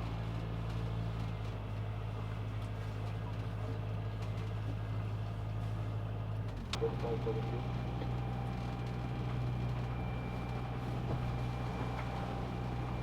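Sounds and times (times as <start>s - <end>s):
boat engine humming: 1.5s - 13.0s.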